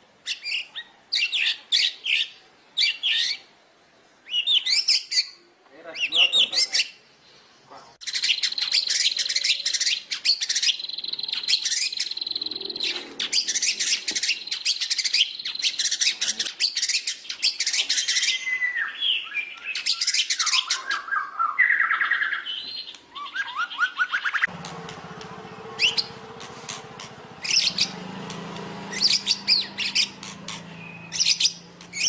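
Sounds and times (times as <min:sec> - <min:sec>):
bird singing chattering song: 0:00.2 - 0:32.0.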